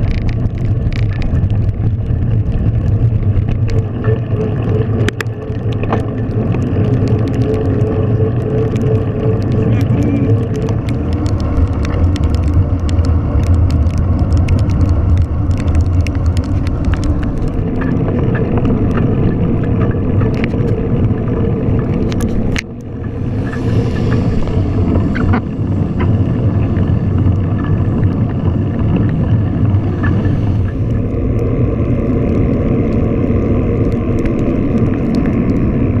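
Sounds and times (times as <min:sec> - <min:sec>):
bicycle ticks and rattles: 0:00.0 - 0:36.0
wind and road noise: 0:00.0 - 0:36.0.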